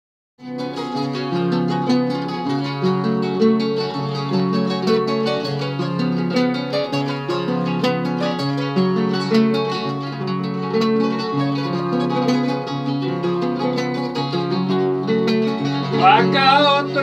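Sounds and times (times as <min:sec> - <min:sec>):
nylon-string guitars playing: 0:00.4 - 0:17.0.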